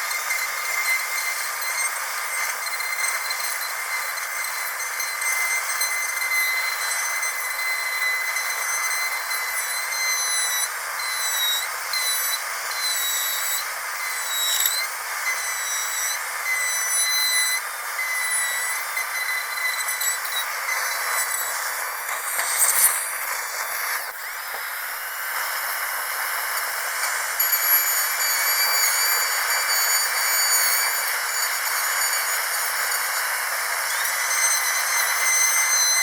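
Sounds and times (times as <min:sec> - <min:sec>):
dentist drill whining: 0:00.0 - 0:36.0.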